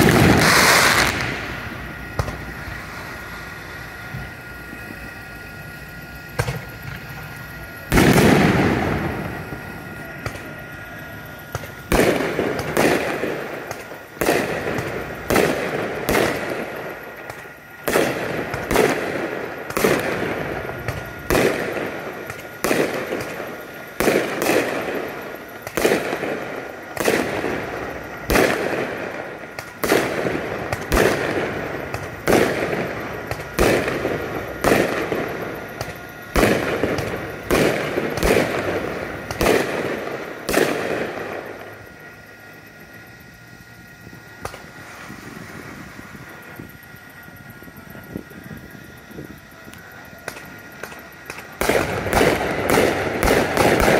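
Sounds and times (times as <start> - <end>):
fireworks exploding: 0.0 - 53.9.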